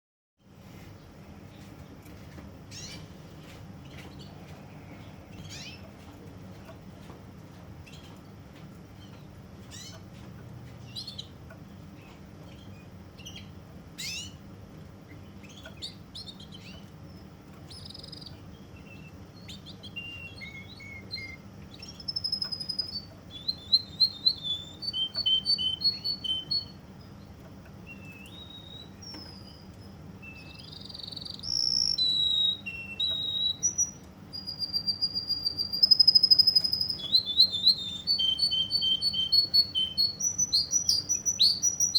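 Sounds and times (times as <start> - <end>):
faint low hum: 0.4 - 41.9
canary singing: 1.5 - 3.2, 3.8 - 6.0, 7.8 - 41.9.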